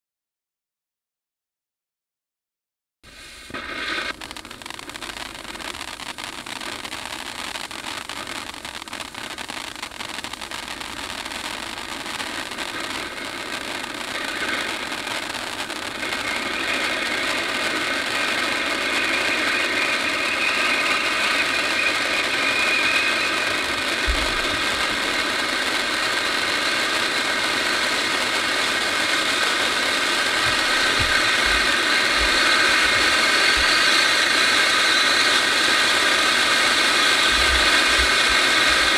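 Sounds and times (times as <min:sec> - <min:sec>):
fountain firework hissing: 0:03.1 - 0:38.9.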